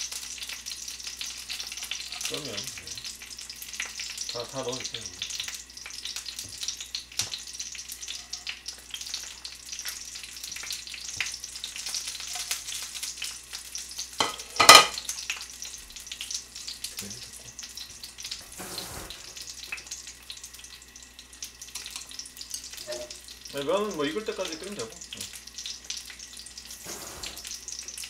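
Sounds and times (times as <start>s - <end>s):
dumplings sizzling in a frying pan: 0.0s - 28.0s.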